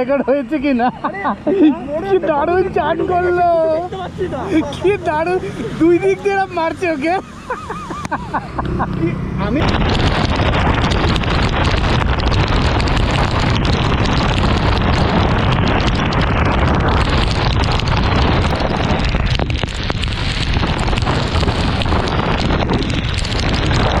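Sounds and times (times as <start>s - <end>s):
road noise: 0.0s - 24.0s
wind buffeting microphone: 0.0s - 24.0s
rain: 0.2s - 24.0s.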